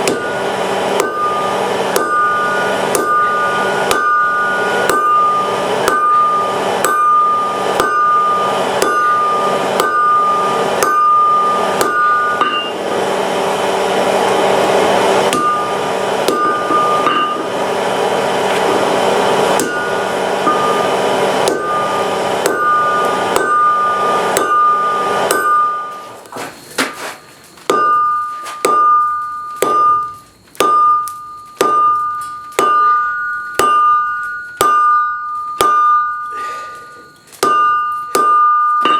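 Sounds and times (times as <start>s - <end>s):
hammer striking anvil: 0.0s - 13.2s, 13.8s - 26.1s, 27.7s - 38.9s.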